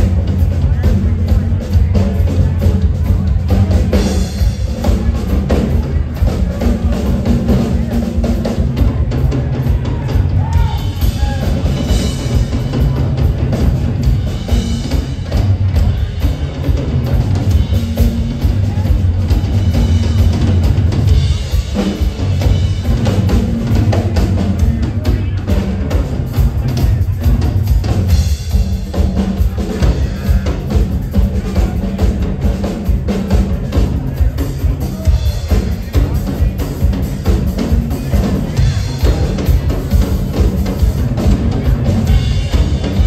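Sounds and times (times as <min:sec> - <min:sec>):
rock drum kits playing: 0:00.0 - 0:43.0.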